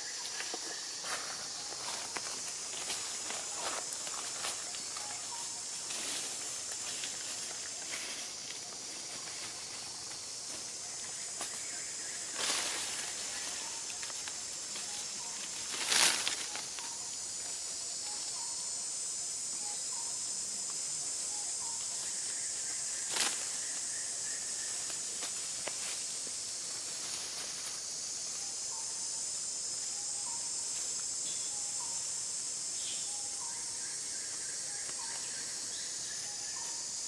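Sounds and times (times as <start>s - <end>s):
high-pitched insect drone: 0.0s - 37.0s.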